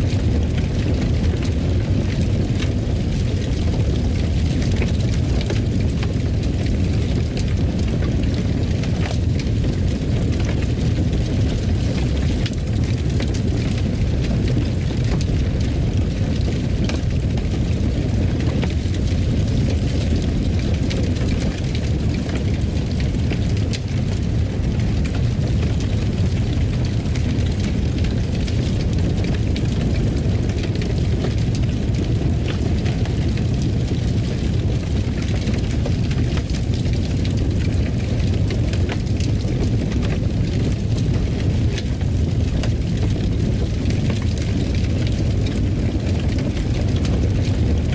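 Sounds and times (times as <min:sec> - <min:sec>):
faint fire crackles: 0:00.0 - 0:47.9
fire rumbling in fireplace: 0:00.0 - 0:47.9.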